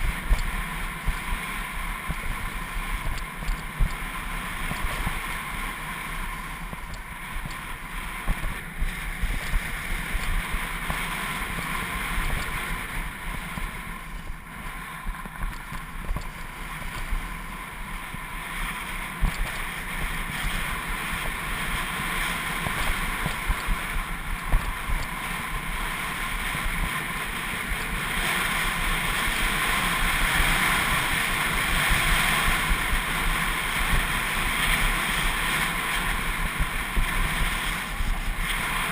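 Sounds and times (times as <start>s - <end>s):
wind rushing across microphone: 0.0s - 38.9s.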